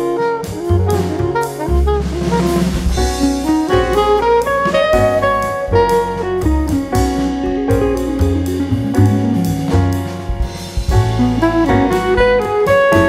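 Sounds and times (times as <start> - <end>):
drum kit: 0.0 - 13.0
horn-like jazz melody: 0.0 - 13.0.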